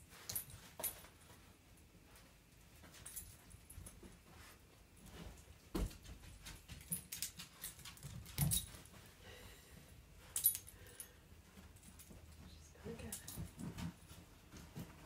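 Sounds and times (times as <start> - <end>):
light clicks and jingles: 0.1 - 15.0.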